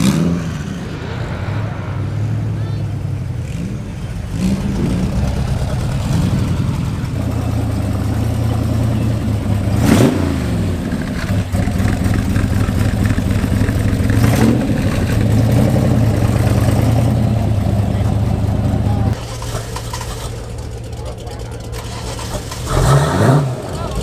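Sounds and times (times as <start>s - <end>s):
car driving past: 0.0s - 20.3s
car engine idling: 0.0s - 24.0s.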